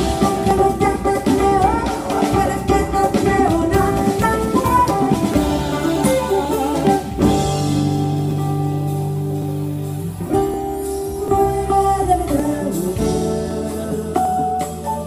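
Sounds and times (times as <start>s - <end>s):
drum kit: 0.0s - 15.0s
jazz band playing: 0.0s - 15.0s.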